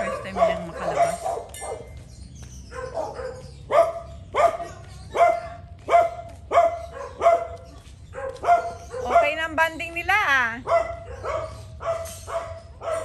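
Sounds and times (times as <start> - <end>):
dog barking: 0.0 - 9.6, 10.6 - 13.0.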